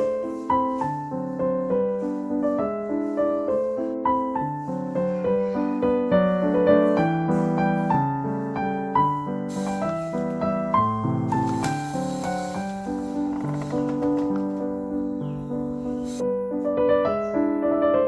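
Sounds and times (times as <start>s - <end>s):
faint hiss: 0.0s - 17.8s
piano music: 0.0s - 18.0s.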